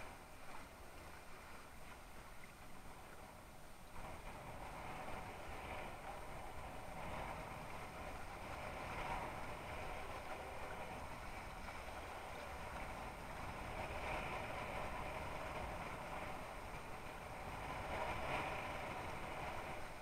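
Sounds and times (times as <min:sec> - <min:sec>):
water rushing along a hull: 0:00.0 - 0:20.0
wind rumble on microphone: 0:00.0 - 0:20.0.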